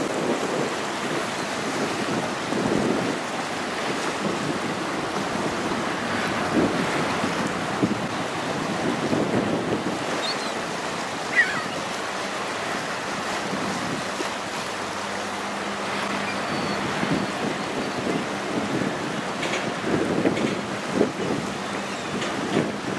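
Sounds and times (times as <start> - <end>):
wind buffeting microphone: 0.0 - 14.7, 15.5 - 22.9
water rushing along ship hull: 0.0 - 22.9.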